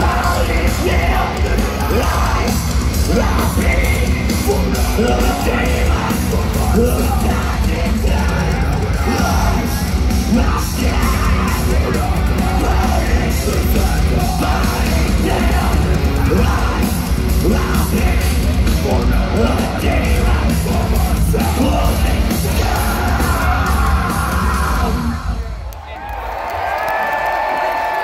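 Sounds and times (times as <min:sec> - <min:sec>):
pounding drums: 0:00.0 - 0:25.2
bass guitar: 0:00.0 - 0:25.6
distorted electric guitars: 0:00.0 - 0:25.6
singer yelling and singing: 0:00.0 - 0:25.6.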